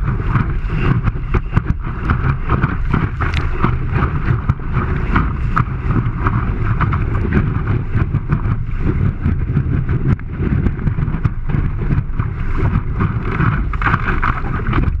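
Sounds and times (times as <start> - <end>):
water splashing against board: 0.0 - 15.0
wind buffeting microphone: 0.0 - 15.0.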